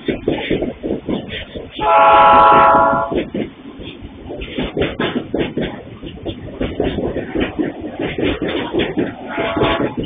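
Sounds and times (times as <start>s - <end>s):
freight train wheels knocking and clanking: 0.0s - 10.0s.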